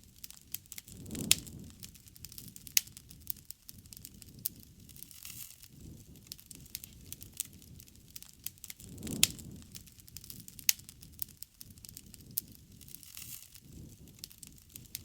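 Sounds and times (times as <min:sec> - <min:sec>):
campfire crackling: 0:00.0 - 0:15.0
fire popping: 0:00.0 - 0:15.0
rush of flame: 0:00.0 - 0:15.0.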